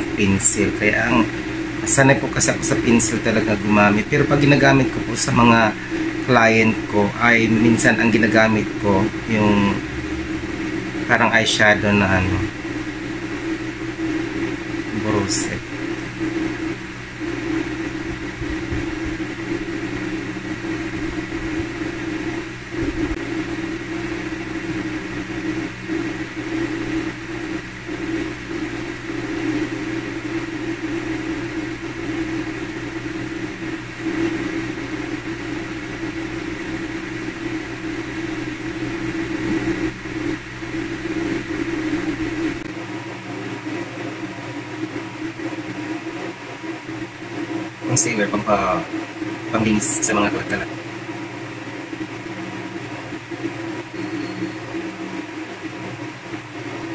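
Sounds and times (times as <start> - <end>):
machine drone with low hum: 0.0 - 56.9.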